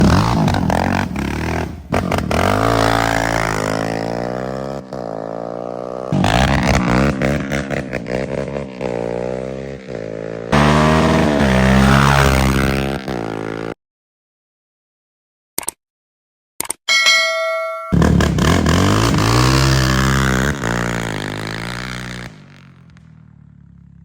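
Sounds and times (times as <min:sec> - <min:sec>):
atv engine revving: 0:00.0 - 0:13.8, 0:18.0 - 0:24.0.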